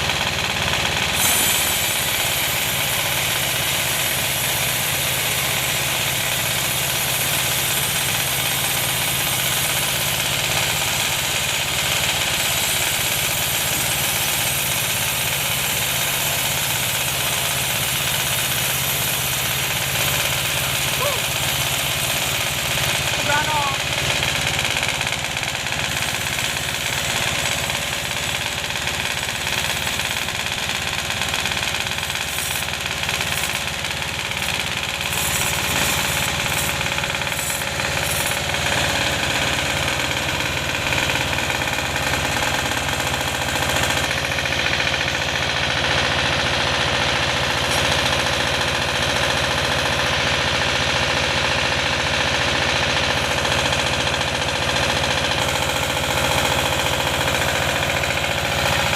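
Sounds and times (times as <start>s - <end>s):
engine running: 0.0s - 58.9s
saw cutting: 0.0s - 58.9s.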